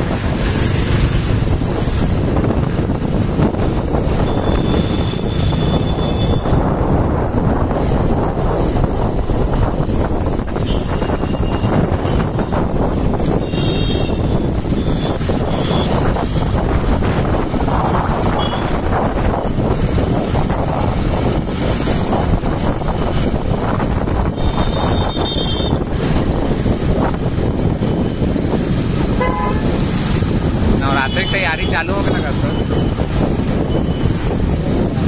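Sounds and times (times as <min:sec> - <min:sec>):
road traffic rumble: 0:00.0 - 0:35.0
wind rushing over microphone: 0:00.0 - 0:35.0.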